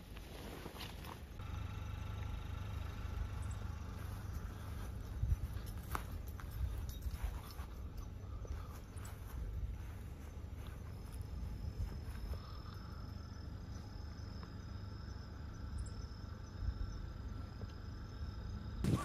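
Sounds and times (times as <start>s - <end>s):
high-pitched insect trill: 3.3s - 19.0s.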